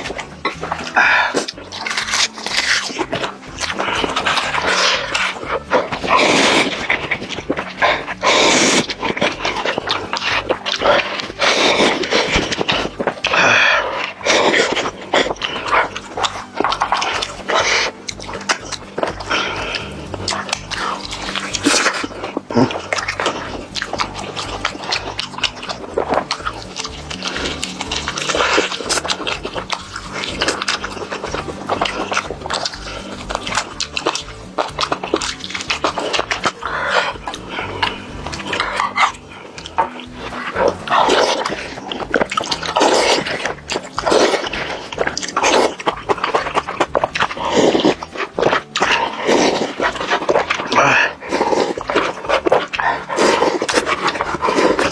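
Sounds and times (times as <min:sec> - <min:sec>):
wet chewing and smacking: 0:00.0 - 0:54.9
crispy crunches of chicken: 0:00.2 - 0:54.9.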